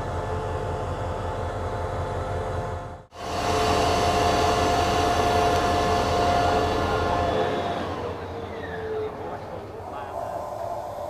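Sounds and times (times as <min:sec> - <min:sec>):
diesel locomotive idling: 0:00.0 - 0:11.0
steady whine: 0:00.0 - 0:11.0.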